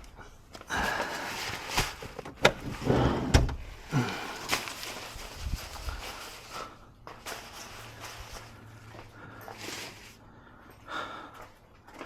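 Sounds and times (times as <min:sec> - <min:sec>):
rustling: 0:00.0 - 0:10.6.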